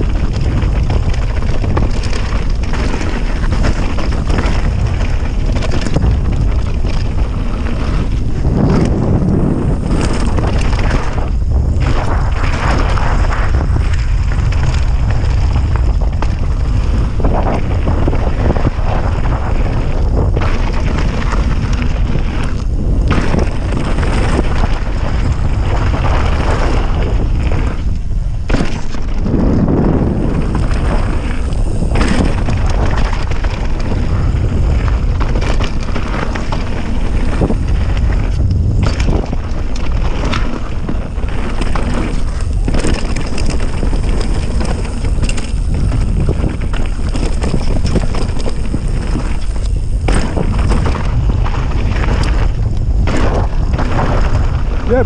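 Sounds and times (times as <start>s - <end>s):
bike rattling and knocking: 0.0s - 55.0s
tyre rumble: 0.0s - 55.0s
wind buffeting microphone: 0.0s - 55.0s.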